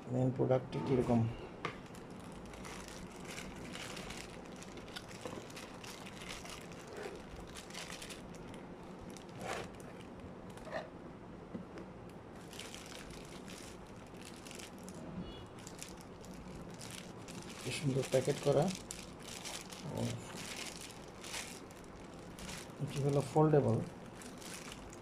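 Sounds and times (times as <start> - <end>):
packaging crinkling and rustling: 1.8 - 10.8, 12.4 - 25.0.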